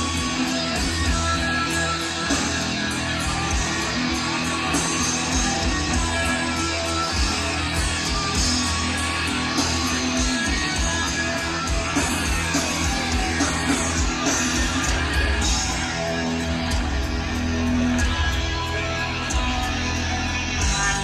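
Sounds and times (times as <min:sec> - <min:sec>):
electric guitar: 0:00.0 - 0:21.0
rock band playing live: 0:00.0 - 0:21.0.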